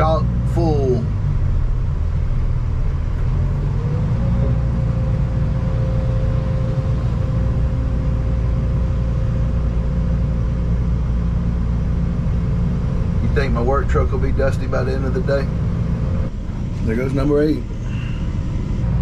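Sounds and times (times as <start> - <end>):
excavator diesel engine droning: 0.0 - 19.0
high-pitched whine: 0.0 - 19.0.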